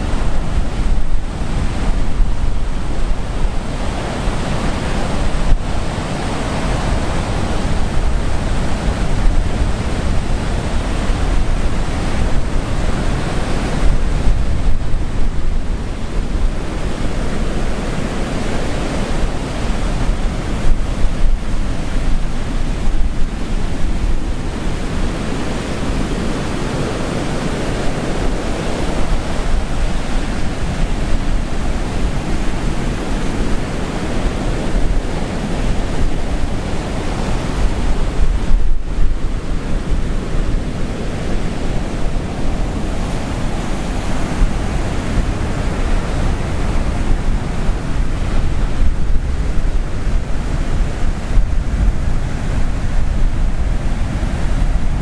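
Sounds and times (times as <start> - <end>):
waves crashing: 0.0 - 55.0
wind rumble on microphone: 0.0 - 55.0.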